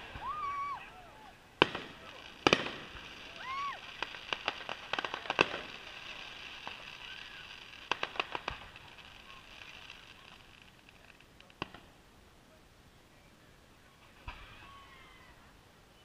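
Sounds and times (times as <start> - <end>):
fireworks popping: 0.0 - 12.1, 13.9 - 15.1.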